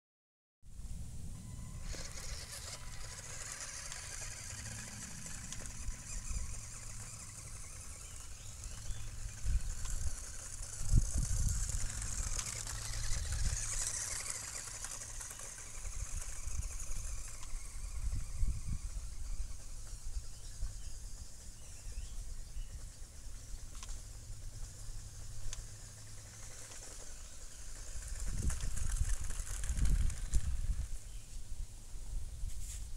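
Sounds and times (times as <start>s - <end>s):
wind rumbling on microphone: 0.8s - 15.1s, 15.7s - 23.0s, 27.7s - 32.9s
toy car motor whine: 1.4s - 31.1s.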